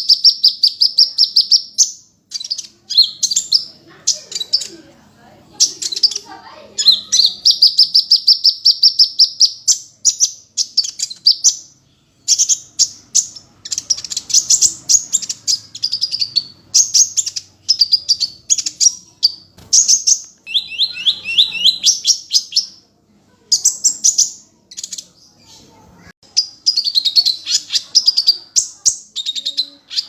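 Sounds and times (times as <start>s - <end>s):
bird chirping trills: 0.0s - 4.9s, 5.5s - 22.9s, 23.5s - 30.0s.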